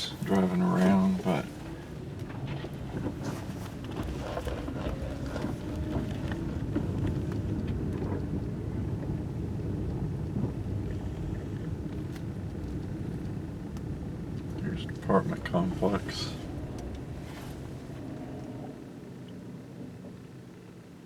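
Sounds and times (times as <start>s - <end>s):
low rumble of engine and tyres: 0.0s - 21.0s.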